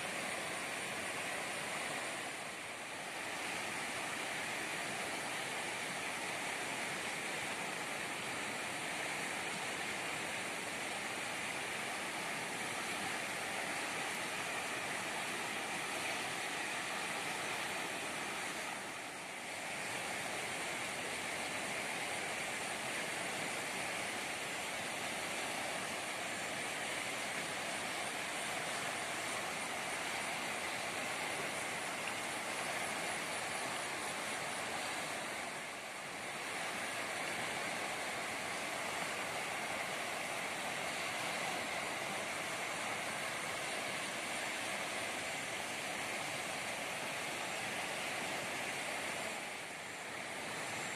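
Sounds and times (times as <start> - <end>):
swollen river rushing: 0.0 - 50.9.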